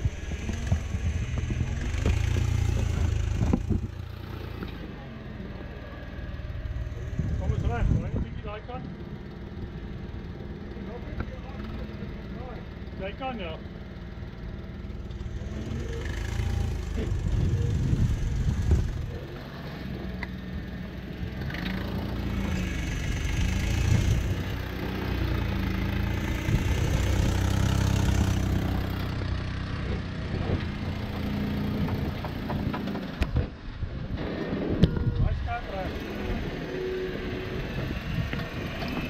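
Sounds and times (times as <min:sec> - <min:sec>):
engine running at low revs: 0:00.0 - 0:39.0.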